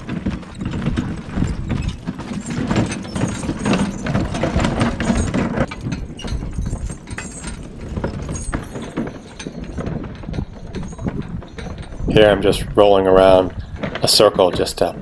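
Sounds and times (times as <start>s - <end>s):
horse hoofbeats on snow: 0.0s - 12.4s.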